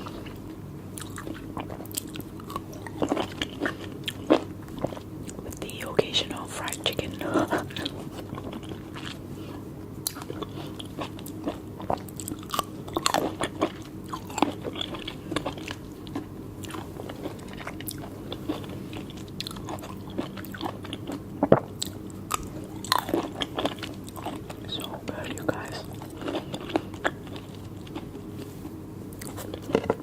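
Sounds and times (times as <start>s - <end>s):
wet chewing of fruit: 0.0s - 30.0s.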